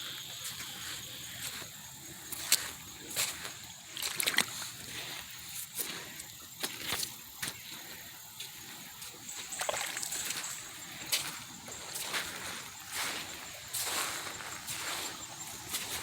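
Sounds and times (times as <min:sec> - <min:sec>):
boots splashing through shallow water: 0:00.0 - 0:16.0.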